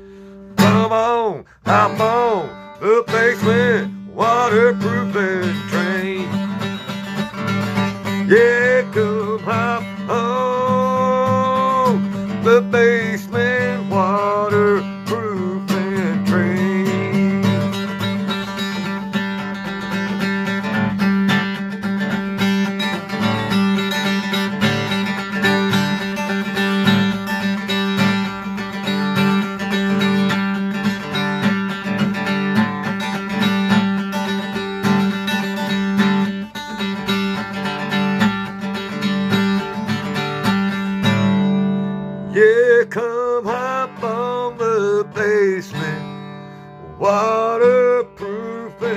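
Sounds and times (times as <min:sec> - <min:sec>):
guitar strummed steadily: 0:00.0 - 0:48.9.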